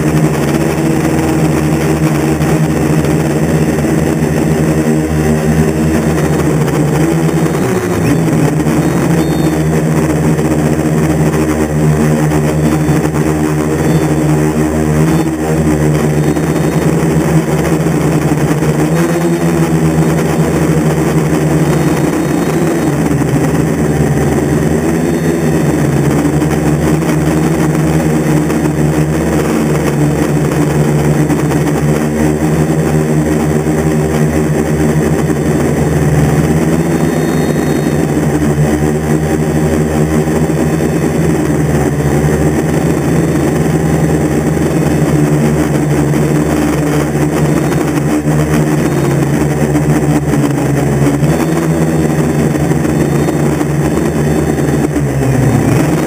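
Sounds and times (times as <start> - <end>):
drone motors humming: 0.0 - 56.0.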